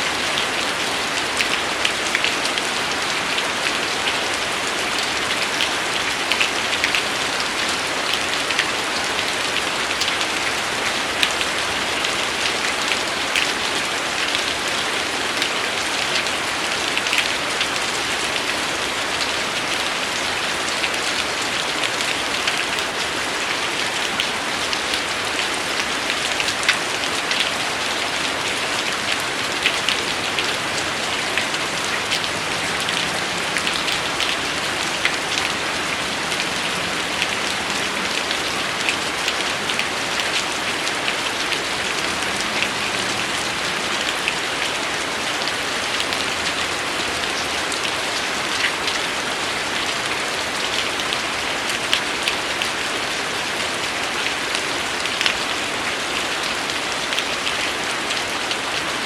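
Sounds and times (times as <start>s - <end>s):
raindrops spattering on a surface: 0.0s - 53.1s
steady rain hiss: 0.0s - 59.0s.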